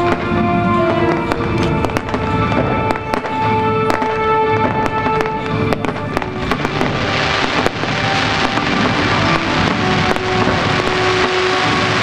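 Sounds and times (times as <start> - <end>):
fireworks popping and crackling: 0.0 - 12.0
music with held notes: 0.0 - 12.0.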